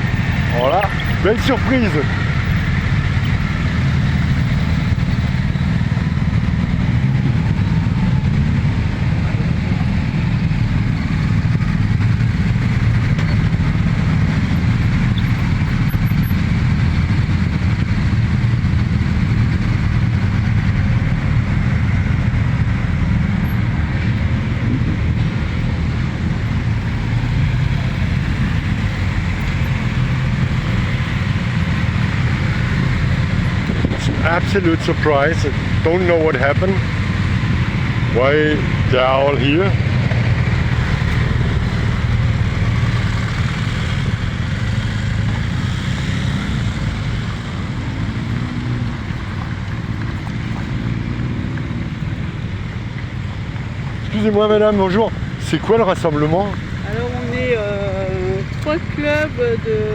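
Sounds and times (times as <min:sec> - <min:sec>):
motorcycle engines rumbling: 0:00.0 - 0:59.9.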